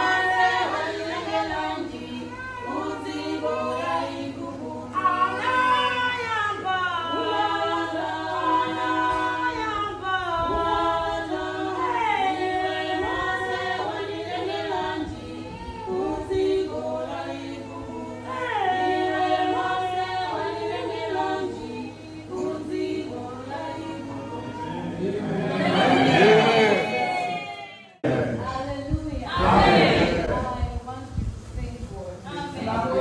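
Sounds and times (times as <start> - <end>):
voices singing in harmony: 0.0 - 33.0.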